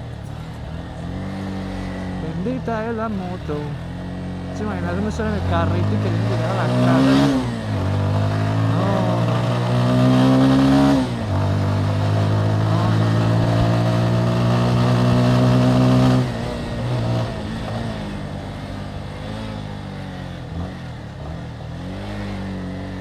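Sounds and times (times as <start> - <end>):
motorcycle engine: 0.0 - 23.0.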